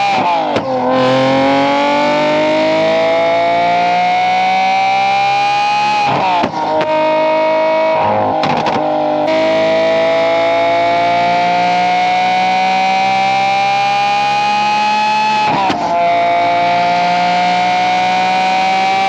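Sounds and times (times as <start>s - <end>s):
sports car engine accelerating: 0.0s - 19.0s.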